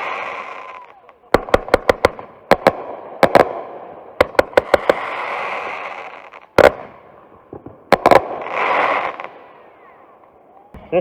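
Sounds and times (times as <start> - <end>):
firework hissing: 0.0 - 10.1
firework bangs: 0.0 - 11.0.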